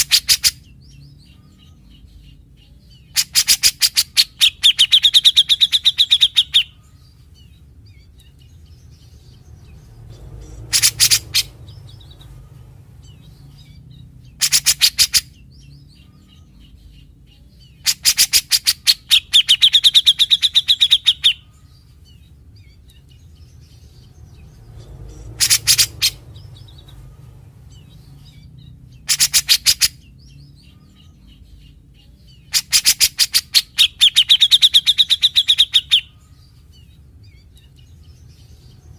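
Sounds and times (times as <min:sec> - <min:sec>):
bird singing rattling phrases: 0:00.0 - 0:38.9.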